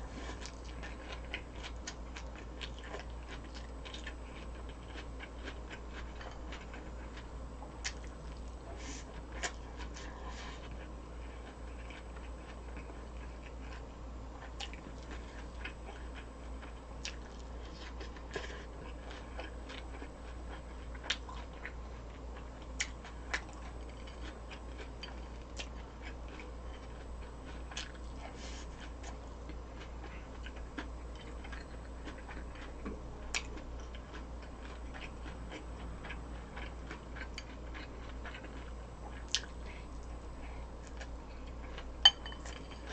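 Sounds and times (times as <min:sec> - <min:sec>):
person chewing crunchy food: 0:00.0 - 0:42.9
steady low hum: 0:00.0 - 0:42.9.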